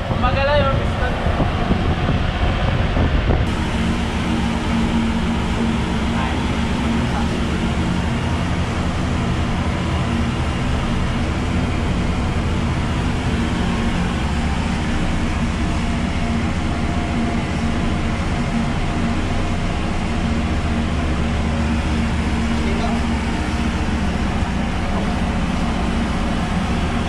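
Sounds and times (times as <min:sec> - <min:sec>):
engine room machinery drone: 0:00.0 - 0:27.0.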